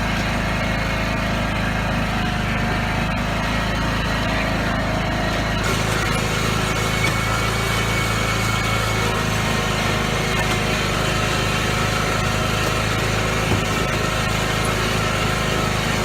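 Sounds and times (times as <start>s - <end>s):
riding lawn mower engine running: 0.0s - 16.0s.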